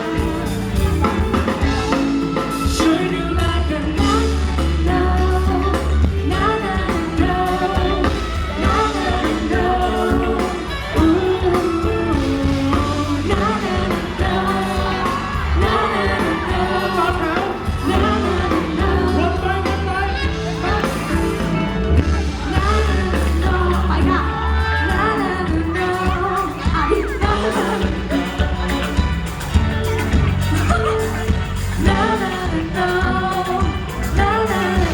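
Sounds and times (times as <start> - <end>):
live pop band: 0.0 - 34.9
person singing: 0.0 - 34.9.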